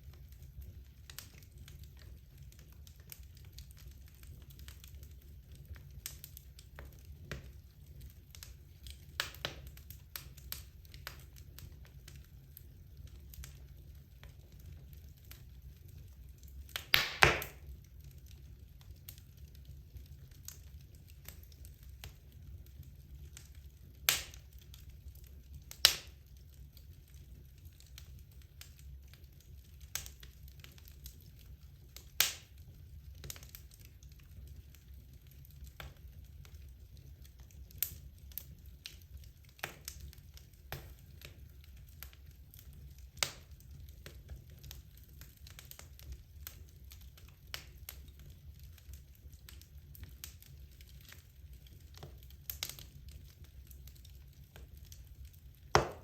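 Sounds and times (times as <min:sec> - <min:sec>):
fireplace logs crackling and popping: 0:00.0 - 0:56.0
low fire rumble: 0:00.0 - 0:56.0.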